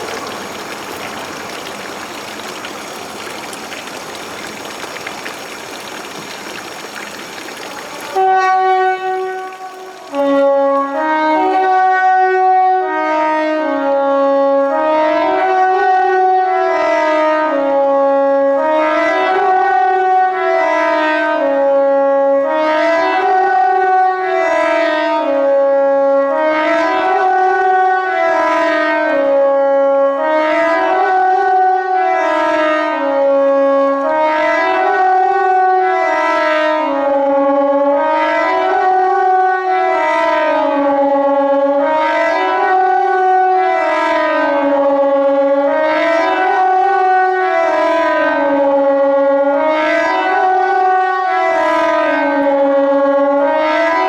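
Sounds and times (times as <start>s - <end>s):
air-raid siren: 0.0s - 54.0s.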